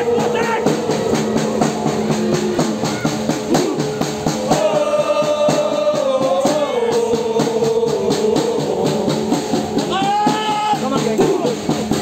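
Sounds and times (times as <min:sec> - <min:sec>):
crowd chanting in unison: 0:00.0 - 0:12.0
steady drum beat: 0:00.0 - 0:12.0.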